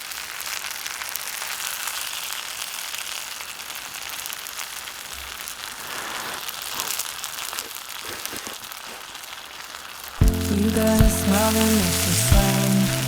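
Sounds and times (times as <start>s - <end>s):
food sizzling in wok: 0.0s - 13.0s.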